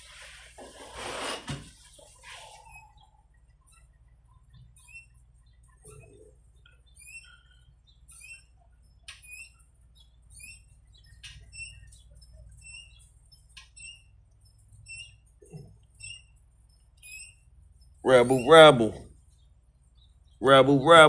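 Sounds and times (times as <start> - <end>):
small birds chirping: 1.8 - 21.0.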